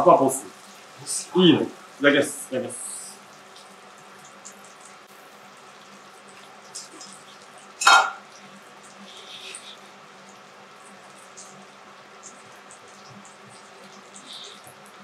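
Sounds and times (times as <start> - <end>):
faint sizzle on a griddle: 0.0 - 15.0.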